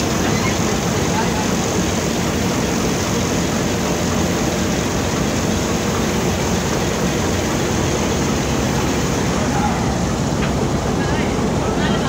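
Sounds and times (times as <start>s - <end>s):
diesel locomotive engine rumbling: 0.0s - 12.0s.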